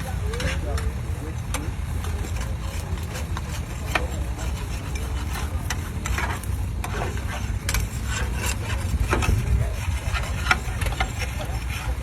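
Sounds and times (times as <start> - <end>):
tractor engine rumbling: 0.0 - 12.0.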